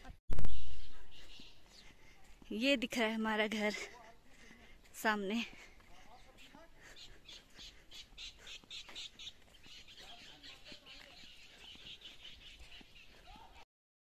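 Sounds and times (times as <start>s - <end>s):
birds chirping and twittering: 0.4s - 13.6s.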